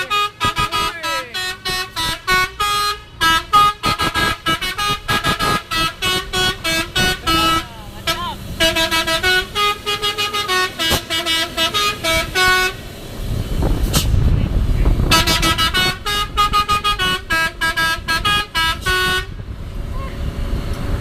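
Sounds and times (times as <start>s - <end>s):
musical horn quick notes: 0.0s - 12.8s, 15.1s - 19.3s
low vehicle engine rumble: 0.0s - 21.0s.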